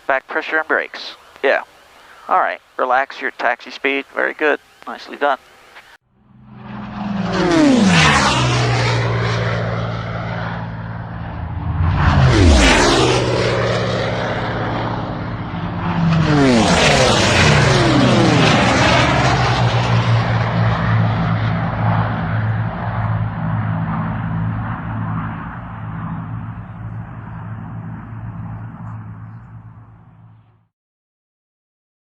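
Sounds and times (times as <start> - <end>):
propeller aircraft engine: 2.9 - 30.7.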